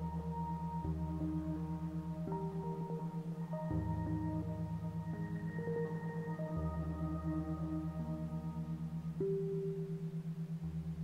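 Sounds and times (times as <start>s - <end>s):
low pulsing tone: 0.0s - 11.0s.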